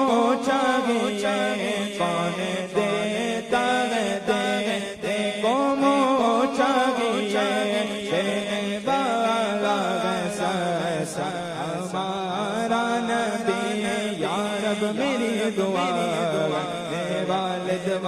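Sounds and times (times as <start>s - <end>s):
person chanting a devotional hymn: 0.0s - 18.0s.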